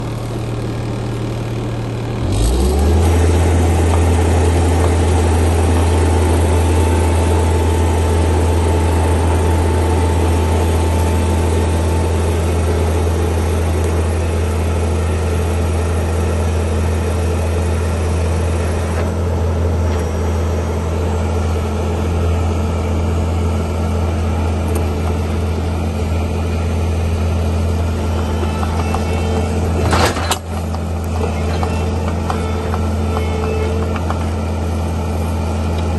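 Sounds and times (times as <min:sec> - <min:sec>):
skid steer engine running: 0:00.0 - 0:35.9.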